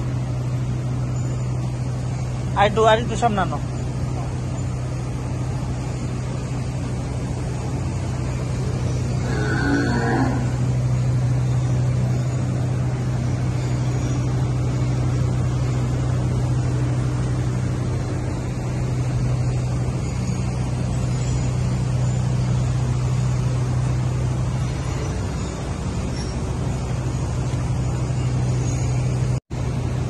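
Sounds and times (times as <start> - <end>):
low machine drone: 0.0 - 30.0.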